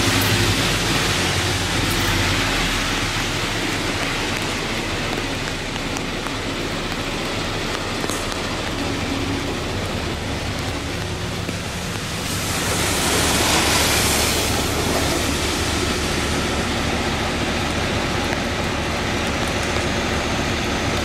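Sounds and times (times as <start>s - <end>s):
rain hiss on wet street: 0.0s - 21.0s
truck engine running low: 0.0s - 21.0s.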